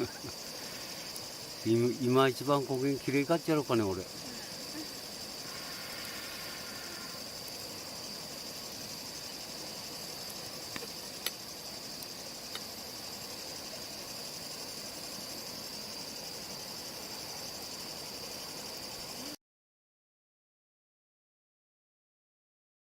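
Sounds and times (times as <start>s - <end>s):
night insects chirring: 0.0s - 19.4s.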